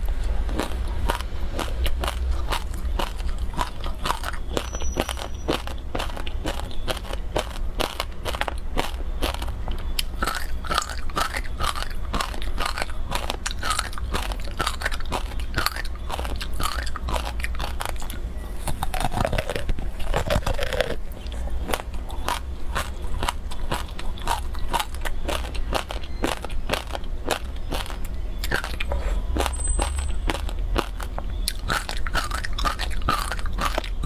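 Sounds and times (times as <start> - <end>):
crunching and chewing ice: 0.0 - 34.0.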